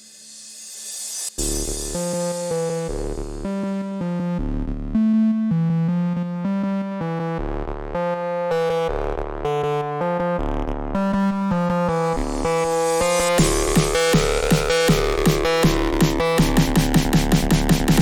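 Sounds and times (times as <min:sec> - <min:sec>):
bass notes: 0:01.4 - 0:18.0
synthesizer chords: 0:01.4 - 0:18.0.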